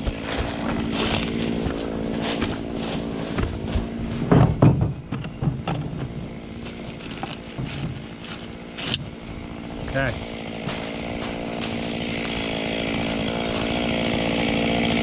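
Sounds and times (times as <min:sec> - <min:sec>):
chainsaw idling: 0:00.0 - 0:04.5, 0:05.1 - 0:15.0.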